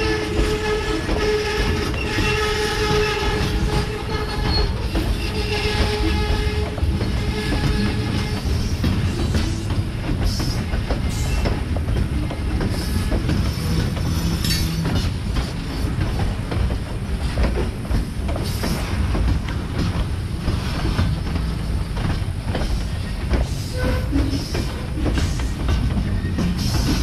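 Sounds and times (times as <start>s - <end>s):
freight train rumble: 0.0s - 27.0s
wheel clacks over rail joints: 0.0s - 27.0s.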